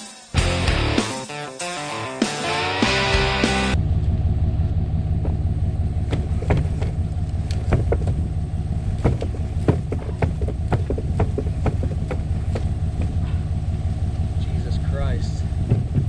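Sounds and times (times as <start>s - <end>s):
vehicle engine running: 3.0s - 16.0s.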